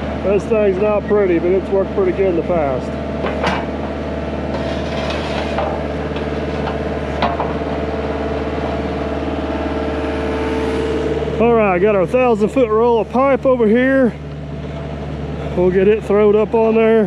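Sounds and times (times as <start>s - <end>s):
heavy equipment engine idling: 0.0s - 17.0s.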